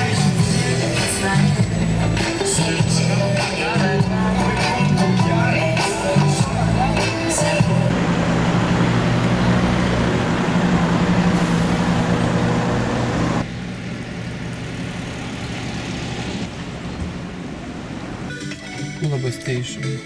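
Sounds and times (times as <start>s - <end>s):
bus engine drone and road noise: 0.0s - 18.8s
street noise: 0.0s - 20.0s.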